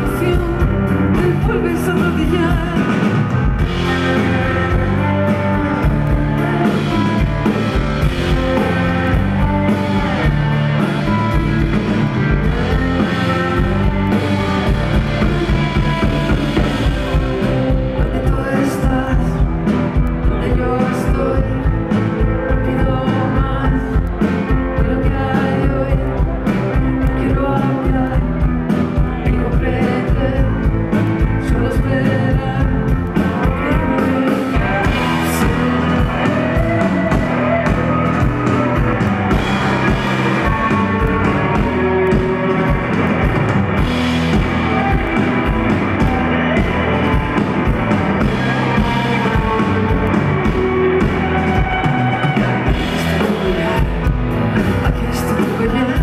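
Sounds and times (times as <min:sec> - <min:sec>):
drum kit beat: 0:00.0 - 0:56.0
keyboards: 0:00.0 - 0:56.0
person singing: 0:00.0 - 0:56.0.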